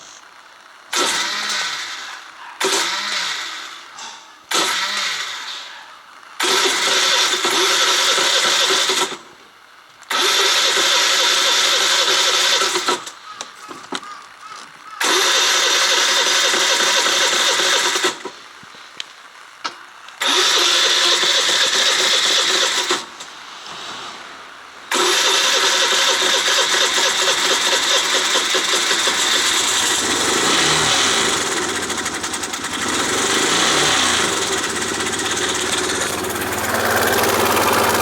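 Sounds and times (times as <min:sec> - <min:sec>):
scooter engine revving with rattle: 0:00.9 - 0:05.8, 0:06.4 - 0:09.4, 0:10.1 - 0:13.2, 0:15.0 - 0:18.4, 0:20.2 - 0:24.0, 0:24.9 - 0:38.0.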